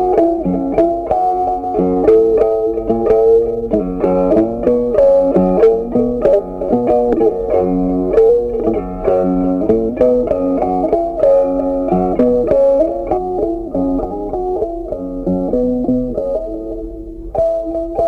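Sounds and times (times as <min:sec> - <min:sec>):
instrumental music with struck notes: 0:00.0 - 0:18.0.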